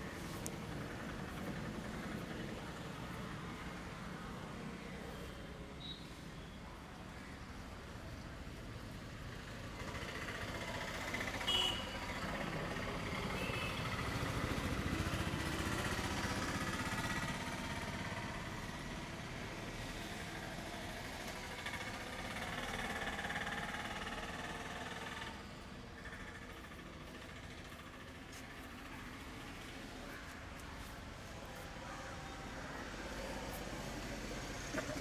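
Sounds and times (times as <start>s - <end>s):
vehicle engine running: 0.0s - 5.6s, 7.2s - 35.0s.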